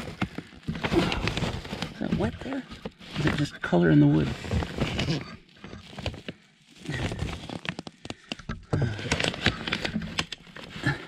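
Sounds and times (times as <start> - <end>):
plastic sheeting crinkling: 0.0 - 11.0.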